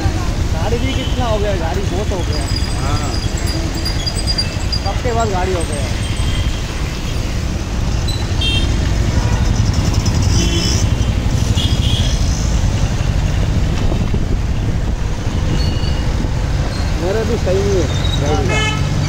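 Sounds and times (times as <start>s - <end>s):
motorcycle wind and engine rumble: 0.0s - 18.9s.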